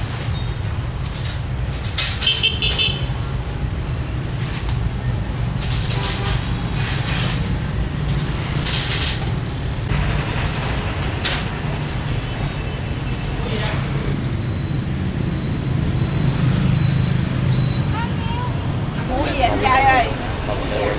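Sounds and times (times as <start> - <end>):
passing road vehicles rumble: 0.0 - 20.9.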